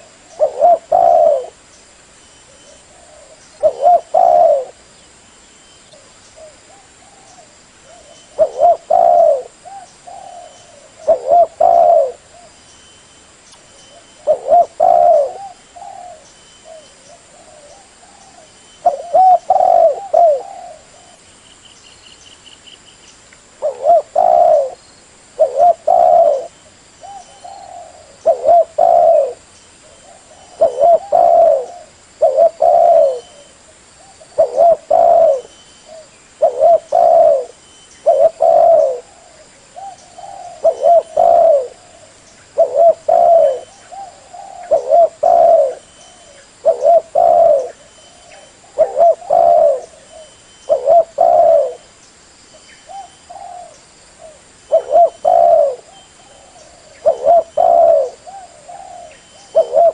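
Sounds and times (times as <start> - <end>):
dove cooing: 0.0 - 1.6, 2.5 - 4.8, 6.0 - 12.6, 13.9 - 21.2, 23.6 - 24.8, 25.4 - 51.9, 52.8 - 59.9.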